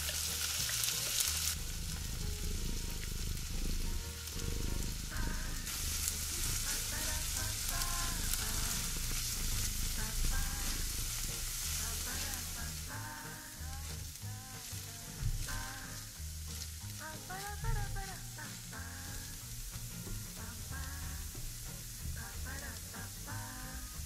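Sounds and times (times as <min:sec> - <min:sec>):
background music: 0:00.0 - 0:24.0
food sizzling in a pan: 0:00.0 - 0:24.0.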